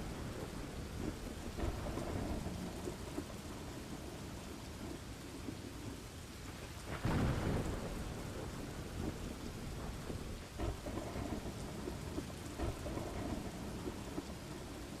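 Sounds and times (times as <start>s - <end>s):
low thunder rumbling: 0.0s - 15.0s
steady rain: 0.0s - 15.0s.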